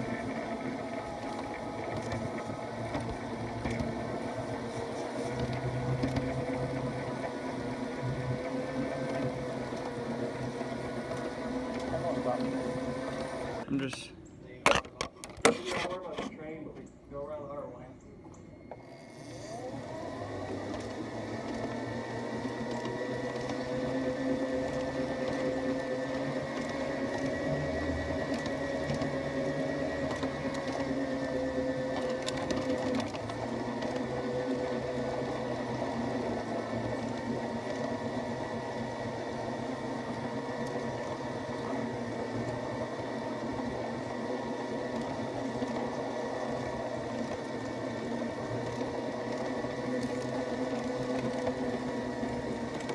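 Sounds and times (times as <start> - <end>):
model streetcar motor whining: 0.0 - 14.0, 18.6 - 52.9.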